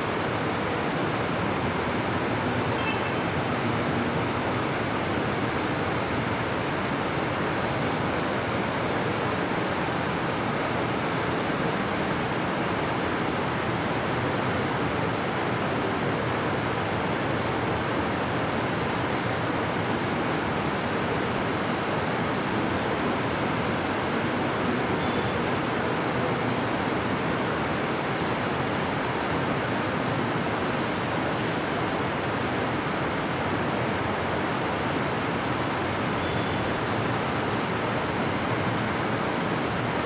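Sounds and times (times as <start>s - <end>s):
steady hiss: 0.0s - 40.0s.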